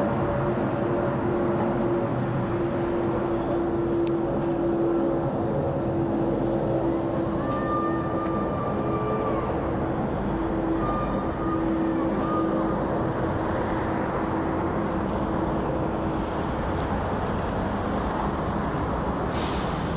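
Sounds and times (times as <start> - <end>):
jet airliner roar overhead: 0.0 - 19.9.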